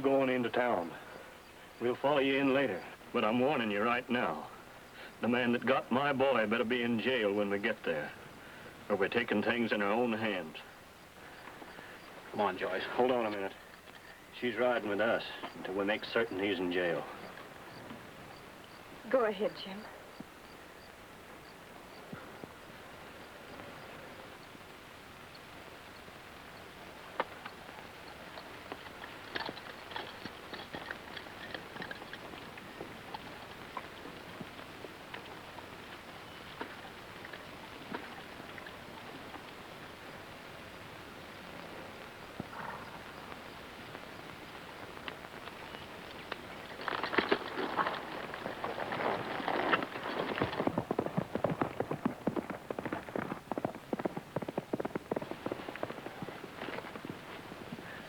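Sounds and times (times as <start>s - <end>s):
horse hooves clopping: 0.0s - 58.0s
steady hiss: 0.0s - 58.0s.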